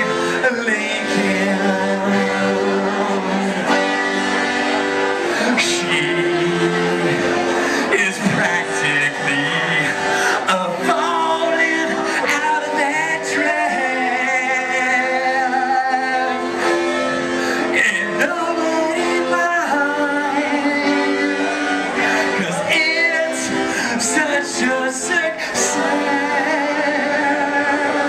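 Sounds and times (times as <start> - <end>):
man singing: 0.0 - 4.4, 5.0 - 28.0
accordion chords: 0.0 - 28.0.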